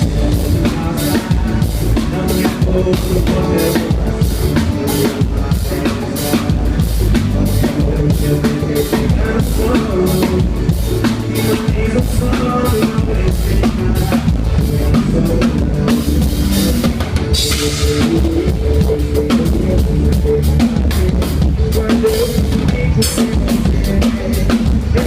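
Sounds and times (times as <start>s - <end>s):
bass drum and snare beat: 0.0s - 25.0s
live band playing: 0.0s - 25.0s.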